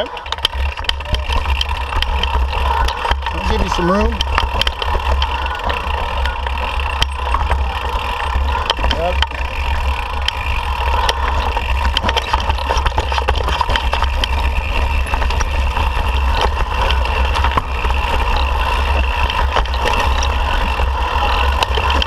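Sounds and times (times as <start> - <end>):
bike clicking and rattling: 0.0 - 22.0
steady whine: 0.0 - 22.0
wind buffeting camera: 0.0 - 22.0.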